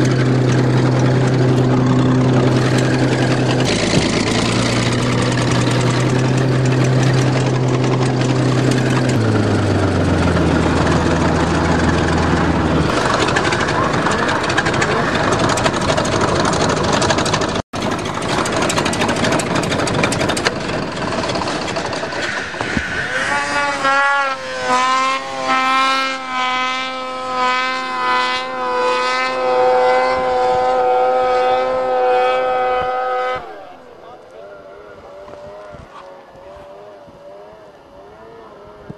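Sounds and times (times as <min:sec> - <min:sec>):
vehicle engine running rough: 0:00.0 - 0:38.9.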